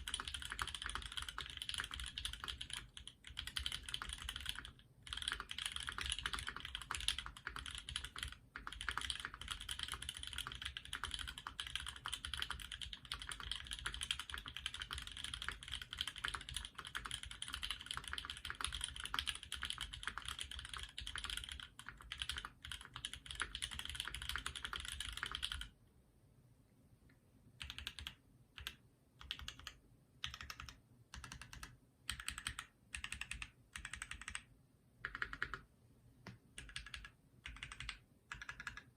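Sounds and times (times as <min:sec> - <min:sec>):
typing on mechanical keyboard: 0:00.0 - 0:25.8, 0:27.6 - 0:38.9.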